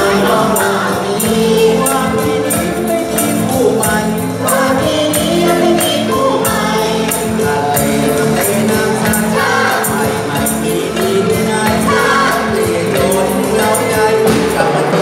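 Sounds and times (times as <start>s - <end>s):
band accompaniment: 0.0s - 15.0s
chorus singing: 0.0s - 15.0s
jingly percussion: 0.0s - 15.0s.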